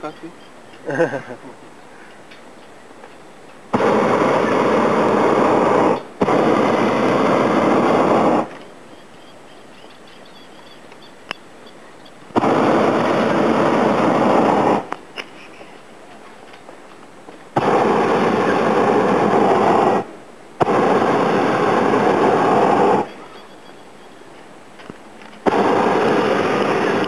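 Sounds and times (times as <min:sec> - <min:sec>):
propane burner blasts: 0:00.0 - 0:09.5, 0:10.4 - 0:27.0.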